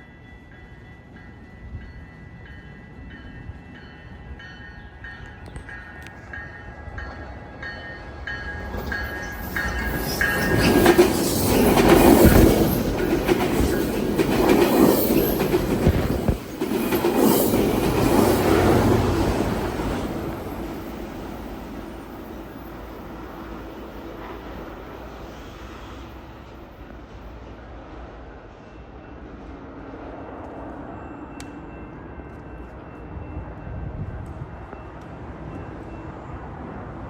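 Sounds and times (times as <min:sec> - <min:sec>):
crossing bell ringing: 0:00.0 - 0:25.2, 0:30.7 - 0:36.9
train rumble and wheel clatter: 0:00.0 - 0:37.0.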